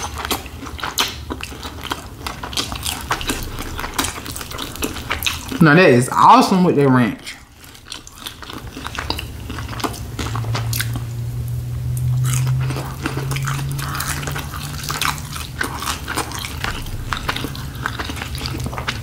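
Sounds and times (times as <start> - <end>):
wet chewing: 0.0 - 5.7, 7.2 - 19.0
low steady hum: 0.0 - 19.0.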